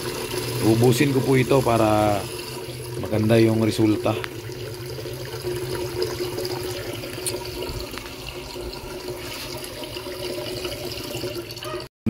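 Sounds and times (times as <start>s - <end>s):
tap water filling a container: 0.0s - 11.9s.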